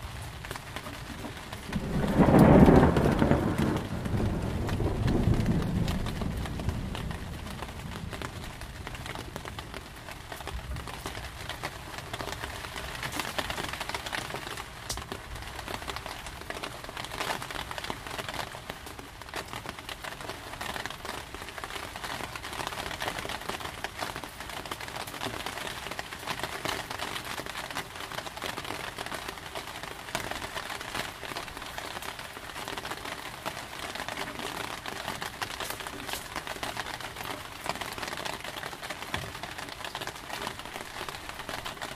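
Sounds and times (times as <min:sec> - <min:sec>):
heavy rain drops ticking: 0:00.0 - 0:41.9.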